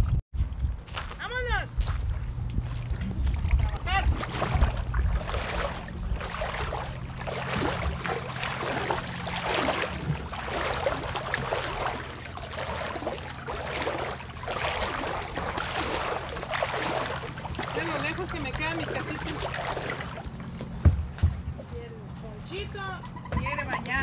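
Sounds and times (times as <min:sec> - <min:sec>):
steady low hum: 0:00.0 - 0:24.0
water lapping against boat: 0:00.4 - 0:24.0.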